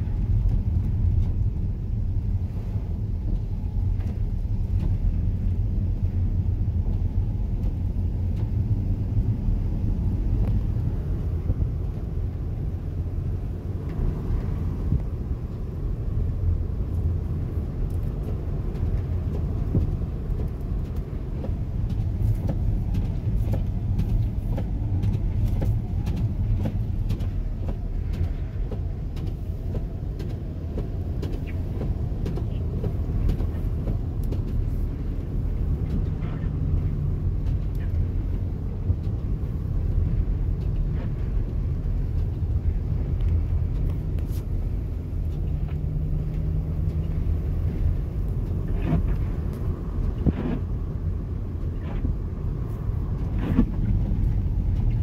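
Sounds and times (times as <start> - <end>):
van engine and tyre rumble: 0.0 - 55.0.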